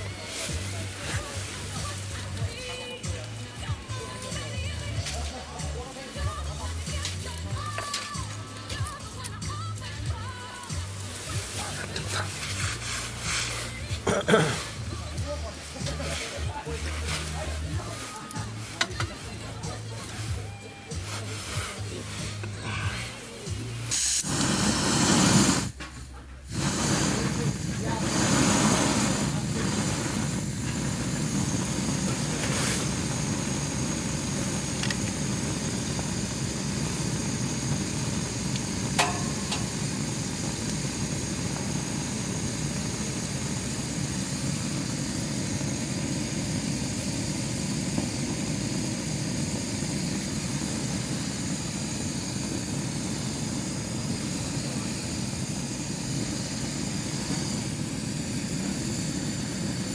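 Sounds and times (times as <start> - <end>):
gas burner roaring: 0.0 - 59.9.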